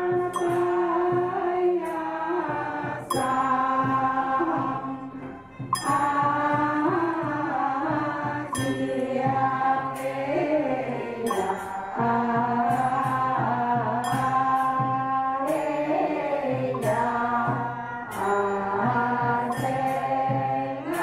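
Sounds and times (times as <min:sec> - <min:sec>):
women chanting in unison: 0:00.0 - 0:05.1, 0:05.8 - 0:21.0.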